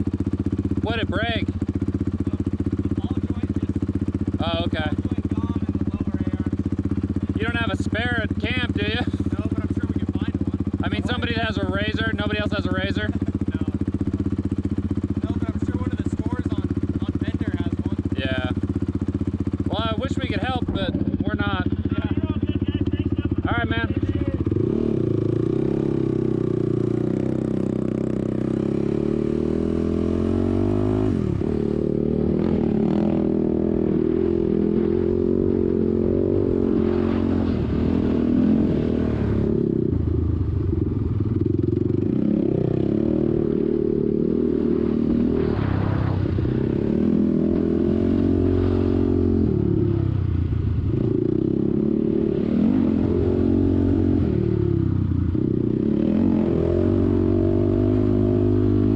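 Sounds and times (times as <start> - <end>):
quad engine revving: 0.0 - 58.9.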